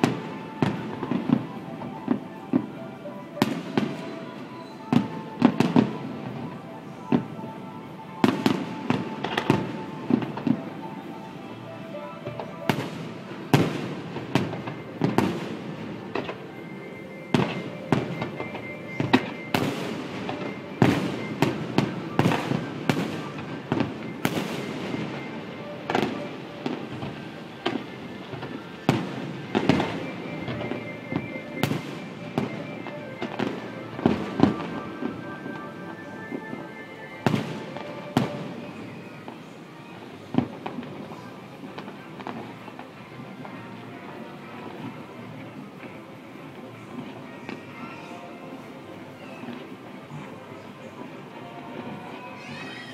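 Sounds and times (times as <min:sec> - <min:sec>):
music playing: 0:00.0 - 0:52.9.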